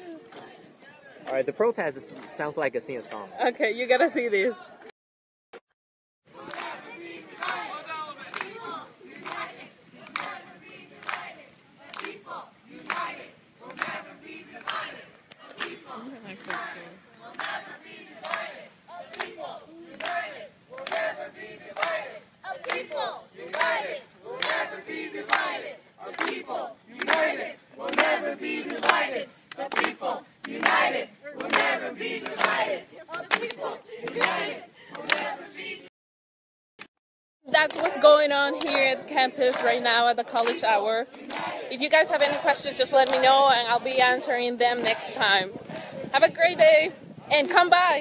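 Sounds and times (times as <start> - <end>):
people clapping: 1.2 - 1.5, 6.4 - 35.8, 37.5 - 46.6
group of people chanting: 6.3 - 35.9, 37.6 - 47.4.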